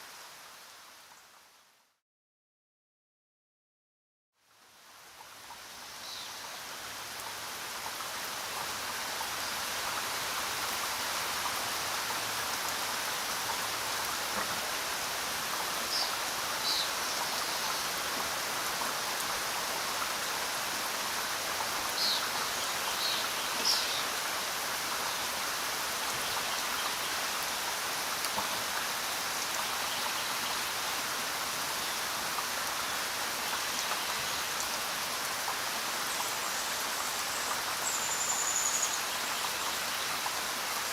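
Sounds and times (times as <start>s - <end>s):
steady rain falling: 0.0s - 1.8s, 4.4s - 40.9s.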